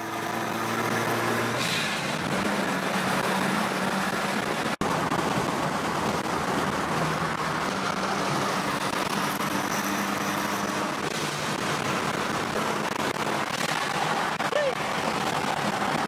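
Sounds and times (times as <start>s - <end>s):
car engine drone: 0.0s - 16.0s
wind and road noise: 0.0s - 16.0s.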